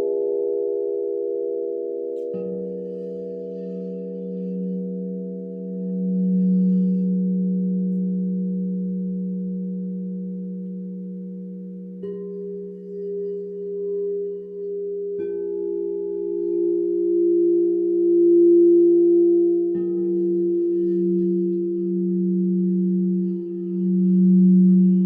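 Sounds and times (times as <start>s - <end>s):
crystal singing bowls ringing: 0.0s - 25.0s.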